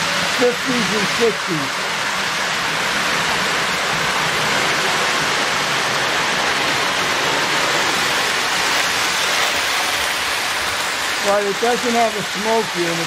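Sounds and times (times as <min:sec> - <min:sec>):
model train wheels rumbling on rails: 0:00.0 - 0:13.0.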